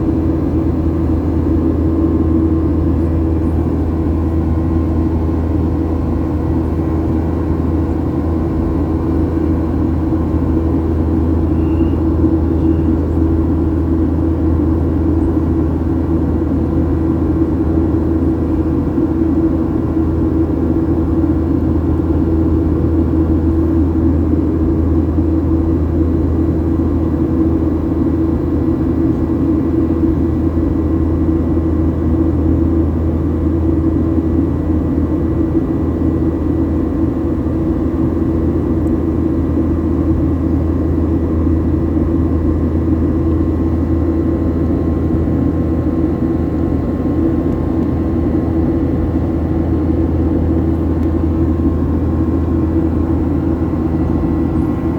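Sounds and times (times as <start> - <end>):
airliner cabin engine drone: 0.0 - 54.9.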